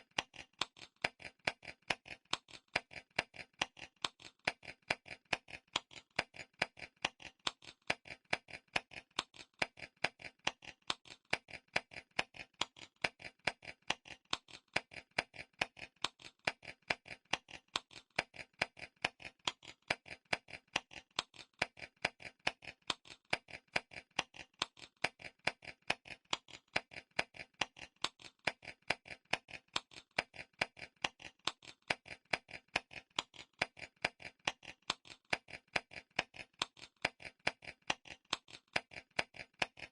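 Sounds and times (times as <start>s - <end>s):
clock timer ticking: 0.0s - 39.9s.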